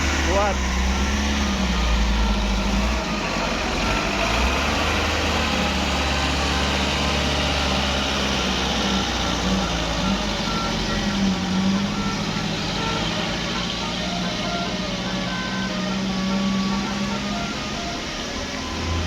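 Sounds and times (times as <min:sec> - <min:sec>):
diesel engine running loudly: 0:00.0 - 0:19.0.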